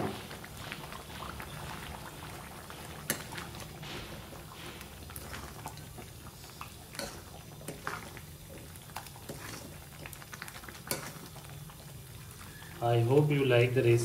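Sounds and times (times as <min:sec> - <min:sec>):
gravy bubbling and sizzling: 0:00.0 - 0:14.0.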